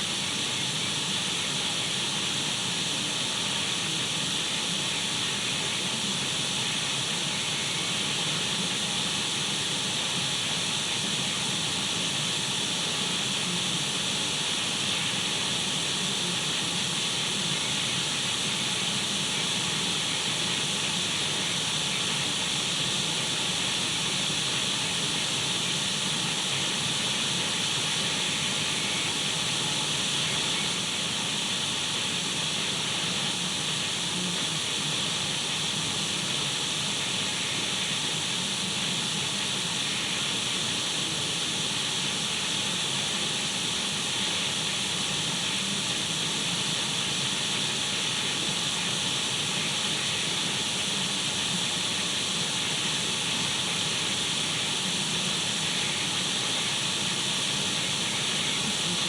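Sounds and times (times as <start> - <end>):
radio static hiss: 0.0 - 59.0.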